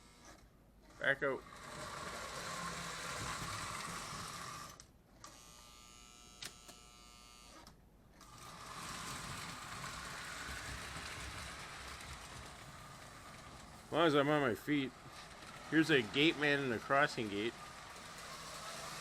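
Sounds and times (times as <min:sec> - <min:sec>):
toy train motor whirring: 0:01.0 - 0:19.0.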